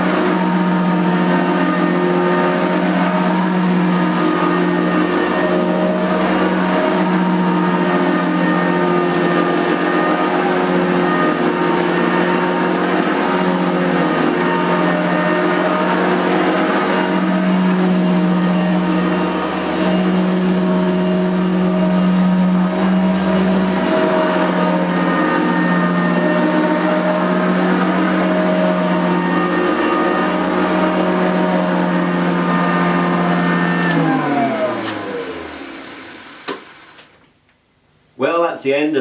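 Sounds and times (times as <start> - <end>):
upright vacuum cleaner running: 0.0 - 37.2.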